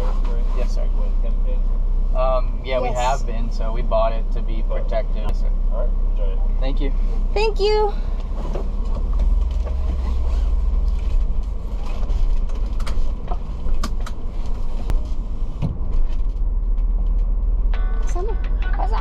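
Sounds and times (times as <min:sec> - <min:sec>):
road noise rumble inside van: 0:00.0 - 0:19.0.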